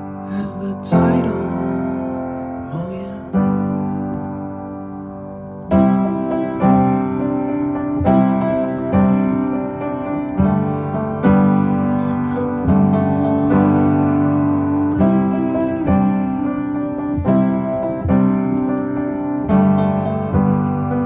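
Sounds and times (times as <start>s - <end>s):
piano chords: 0.0s - 21.0s.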